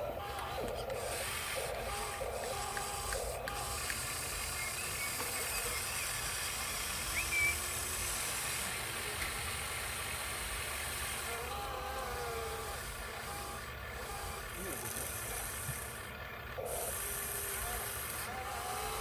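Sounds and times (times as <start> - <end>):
toy truck motor whirring: 0.0 - 19.0.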